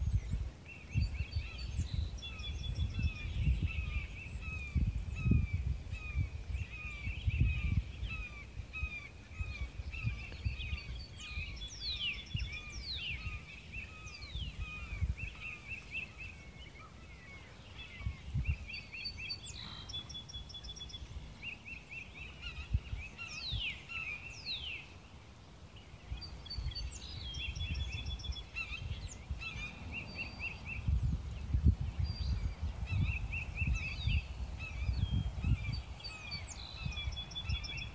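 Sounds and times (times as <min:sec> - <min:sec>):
birds chirping and whistling: 0:00.0 - 0:25.0, 0:25.8 - 0:37.9
wind rumbling on microphone: 0:00.0 - 0:37.9.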